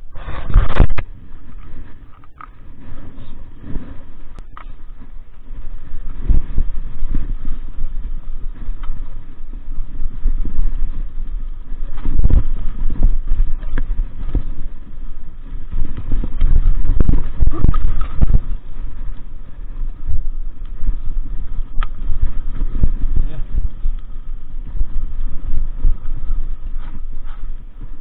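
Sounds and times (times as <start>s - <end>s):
wind rumble on microphone: 0.0s - 28.0s
bike rattling over stony trail: 0.1s - 28.0s.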